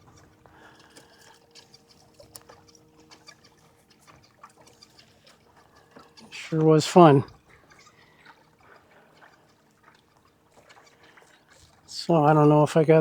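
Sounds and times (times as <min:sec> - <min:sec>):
faint steady hum: 0:00.0 - 0:13.0
water trickling around kayak: 0:00.0 - 0:13.0.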